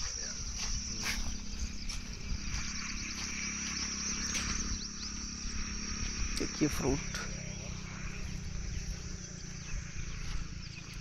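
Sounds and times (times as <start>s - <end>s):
bird chirps: 0.0s - 11.0s
insects trilling: 0.0s - 11.0s.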